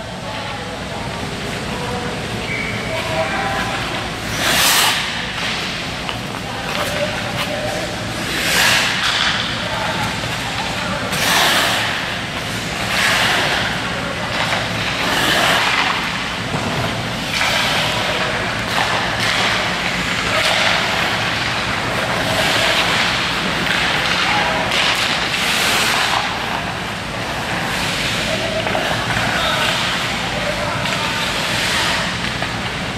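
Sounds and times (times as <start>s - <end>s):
skate blades scraping ice: 3.5s - 32.9s.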